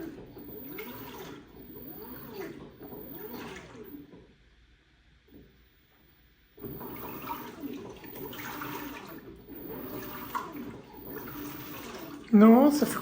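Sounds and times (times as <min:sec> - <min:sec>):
washing machine water sloshing: 0:00.0 - 0:04.2, 0:06.6 - 0:13.0.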